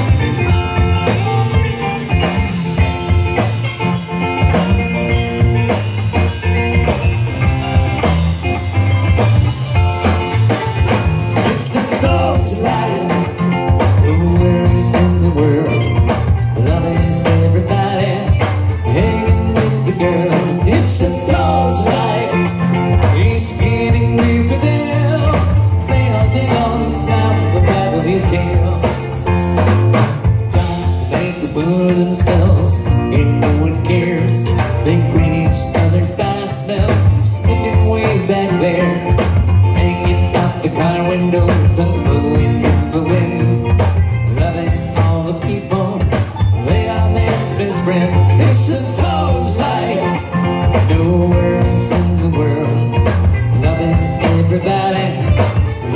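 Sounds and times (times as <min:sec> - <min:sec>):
live band with steel pans: 0:00.0 - 0:55.9.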